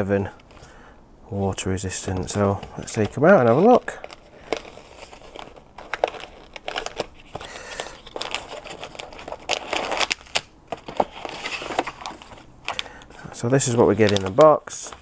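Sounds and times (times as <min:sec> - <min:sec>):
cardboard packaging crinkling: 0:01.9 - 0:15.0.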